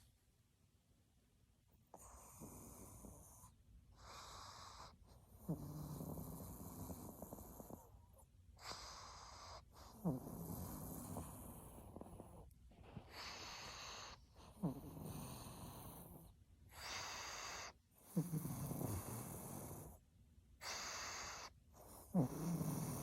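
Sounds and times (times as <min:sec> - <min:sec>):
dog snoring: 0:01.9 - 0:20.0, 0:20.6 - 0:23.0.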